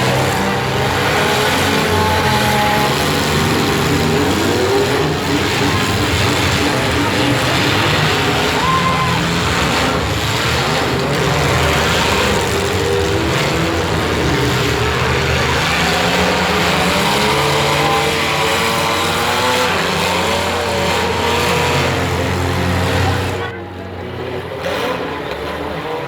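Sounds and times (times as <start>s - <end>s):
steady loud din: 0.0s - 23.6s
car engines revving: 0.0s - 26.0s.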